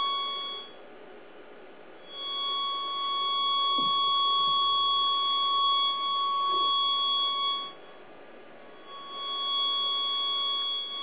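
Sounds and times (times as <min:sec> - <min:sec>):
high-pitched tone from speaker: 0:00.0 - 0:00.8, 0:02.0 - 0:07.9, 0:08.7 - 0:11.0.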